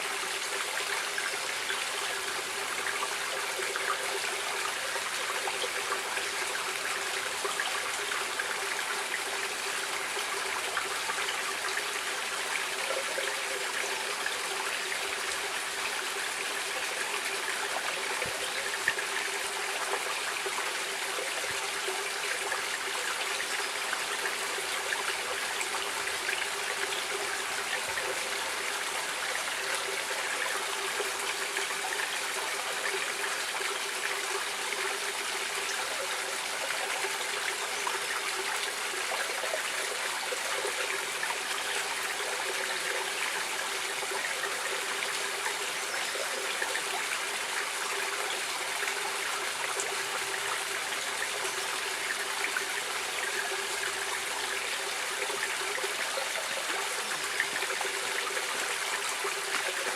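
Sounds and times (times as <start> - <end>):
stream water running over rocks: 0.0 - 59.9.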